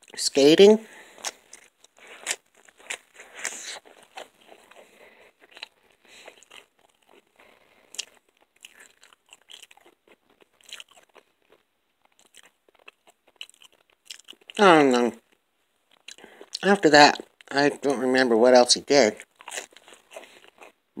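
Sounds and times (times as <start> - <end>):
person chewing pizza: 0.9 - 17.6, 19.1 - 21.0.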